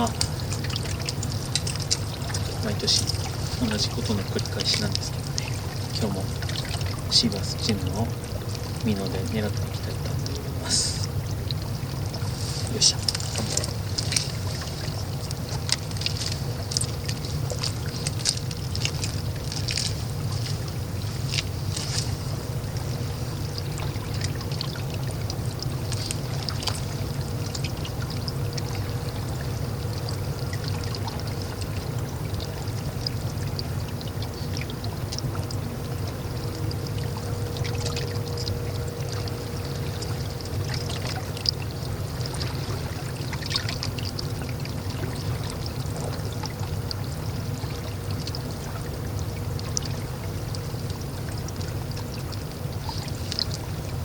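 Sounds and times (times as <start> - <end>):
small splashes and clicks: 0.0 - 54.0
steady low rumble: 0.0 - 54.0
water sloshing and trickling: 0.0 - 54.0.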